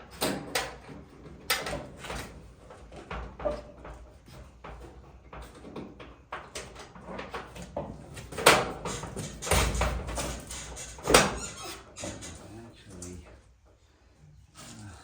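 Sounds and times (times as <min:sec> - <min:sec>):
metal door clanks and knocks: 0:00.0 - 0:12.4.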